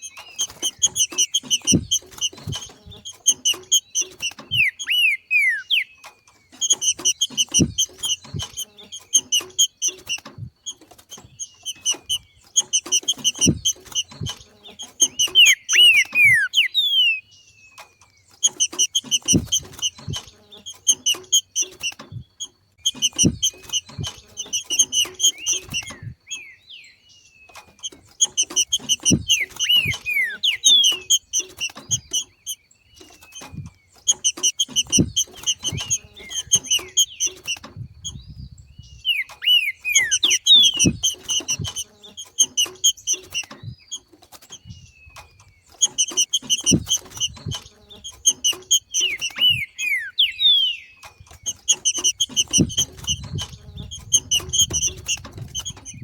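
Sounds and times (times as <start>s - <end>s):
bird chattering and whistling: 0.0s - 56.0s.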